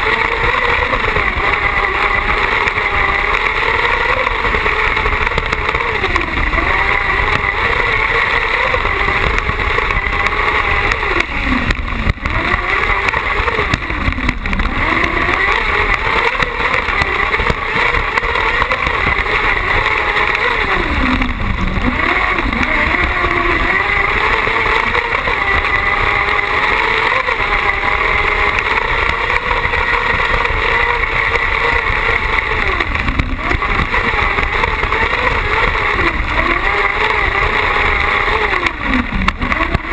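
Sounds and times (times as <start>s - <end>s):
high-revving buggy engine: 0.0s - 39.9s.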